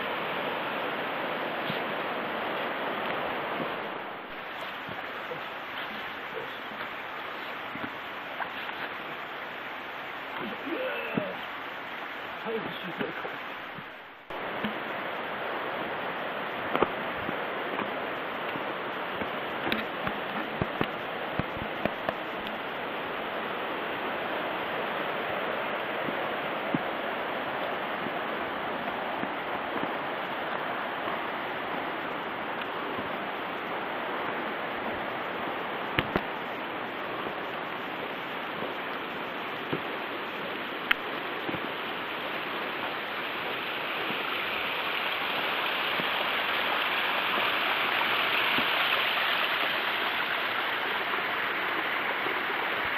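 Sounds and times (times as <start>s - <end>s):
water rushing: 0.0s - 52.9s.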